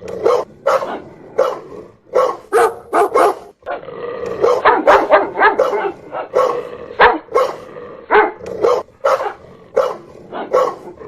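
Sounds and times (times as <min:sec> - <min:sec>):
dog barking loudly: 0:00.2 - 0:11.0.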